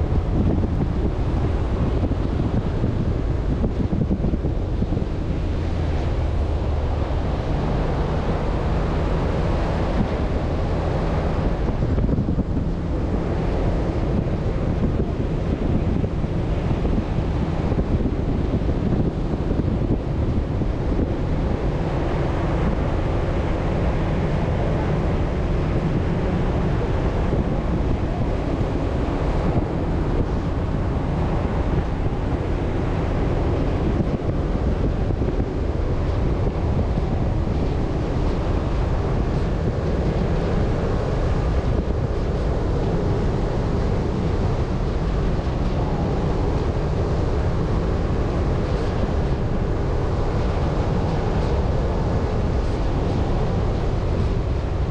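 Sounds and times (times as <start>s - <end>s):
pickup truck driving on sand: 0.0s - 54.9s
wind noise on microphone: 0.0s - 54.9s.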